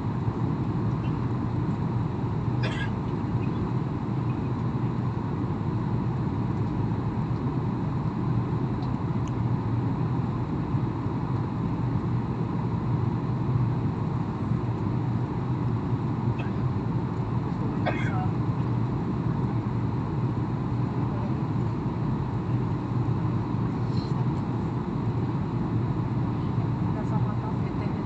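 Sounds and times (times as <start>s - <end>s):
airliner cabin engine drone: 0.0s - 28.0s.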